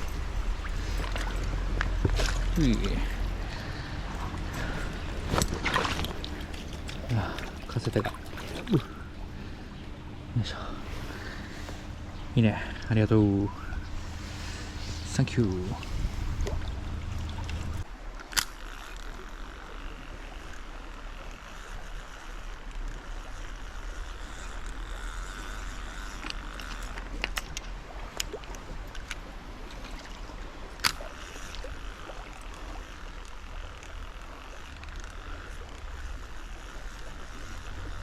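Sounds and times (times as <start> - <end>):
stream water running: 0.0 - 38.0.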